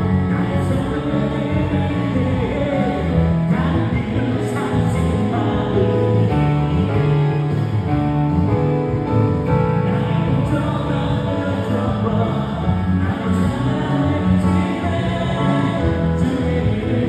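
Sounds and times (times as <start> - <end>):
bass guitar: 0.0 - 17.0
drums: 0.0 - 17.0
electric guitar: 0.0 - 17.0
keyboard: 0.0 - 17.0.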